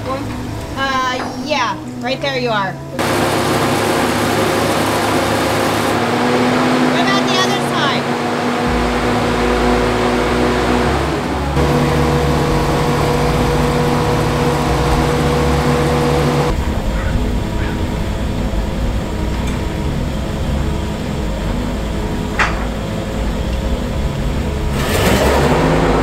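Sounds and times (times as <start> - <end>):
engine idling: 0.0 - 26.0
rushing noise: 3.0 - 26.0.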